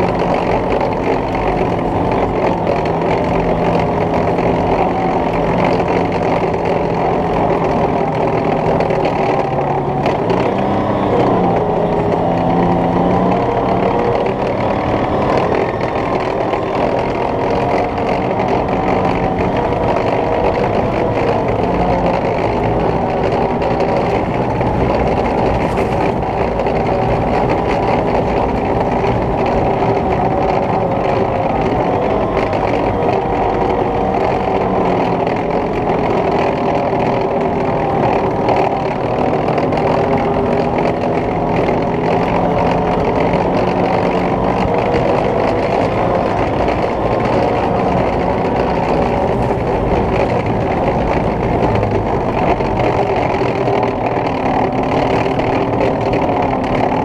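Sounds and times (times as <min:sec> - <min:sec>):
armoured vehicle engine running: 0:00.0 - 0:57.0
tracks rattling: 0:00.0 - 0:57.0.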